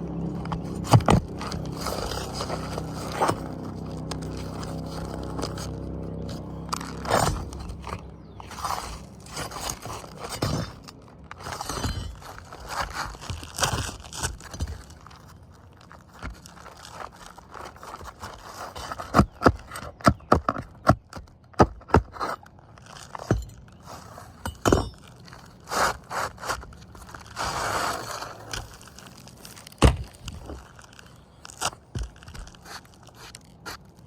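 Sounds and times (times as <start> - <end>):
knocks and clicks on roof shingles: 0.0 - 34.0
scraping on shingles: 0.0 - 34.0.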